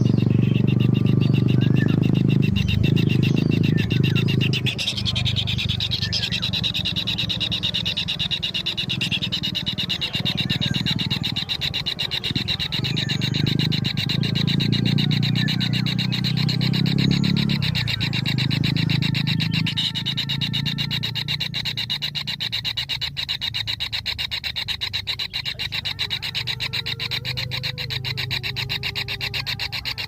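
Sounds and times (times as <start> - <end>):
nestlings rasping begging call: 0.0 - 30.0.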